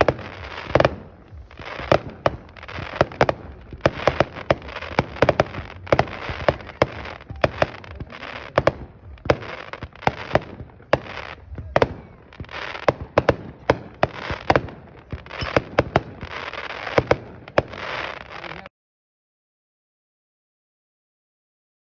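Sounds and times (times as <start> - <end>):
firework bangs: 0.0 - 18.6
firework crackling: 0.0 - 18.7.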